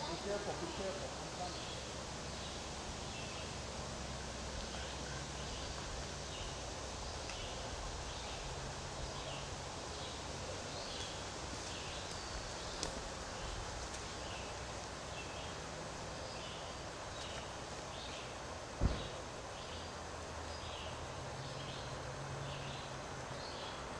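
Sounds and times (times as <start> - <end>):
small birds chirping: 0.0 - 3.6, 4.5 - 23.9
outdoor hiss: 0.0 - 23.9.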